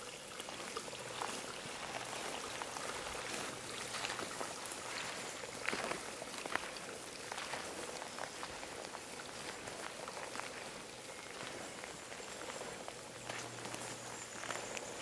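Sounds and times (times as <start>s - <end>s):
rain pattering: 0.0s - 15.0s
footsteps through wet grass: 1.0s - 15.0s.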